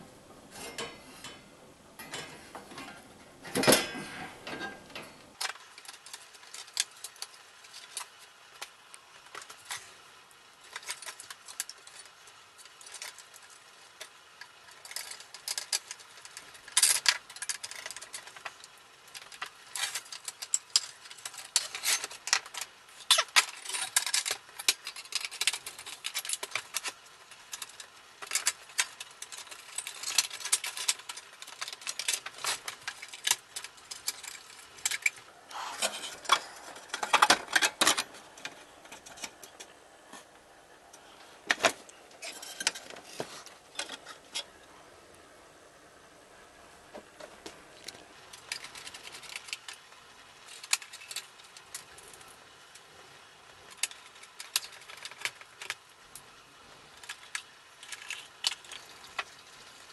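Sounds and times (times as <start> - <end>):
heater parts clicking and rattling: 0.0 - 45.2, 46.9 - 59.9.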